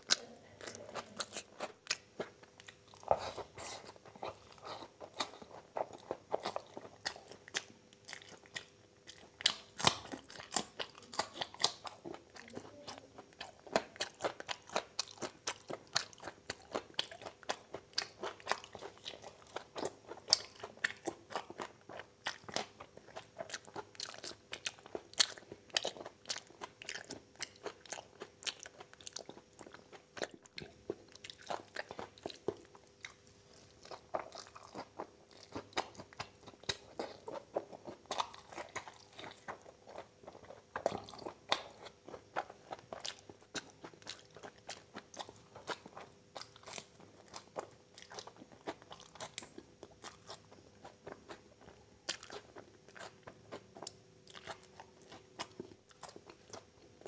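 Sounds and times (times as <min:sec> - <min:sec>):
person chewing and mouth smacking: 0:00.0 - 0:57.0.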